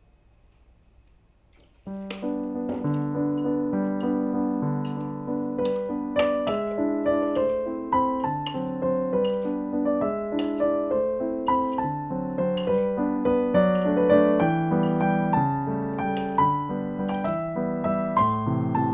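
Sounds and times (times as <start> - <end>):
piano music: 1.9 - 18.9.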